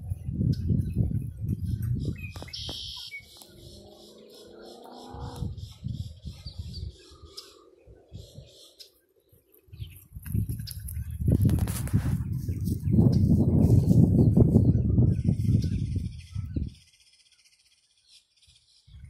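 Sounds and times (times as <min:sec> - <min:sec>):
wind rumbling on microphone: 0:00.0 - 0:17.0
birds chirping: 0:00.0 - 0:19.0.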